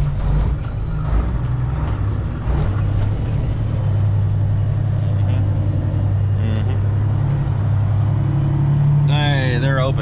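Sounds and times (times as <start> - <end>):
truck engine drone from cab: 0.0 - 10.0.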